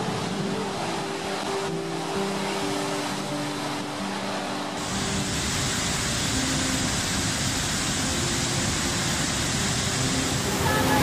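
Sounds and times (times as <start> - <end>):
rushing churning water: 0.0 - 11.0.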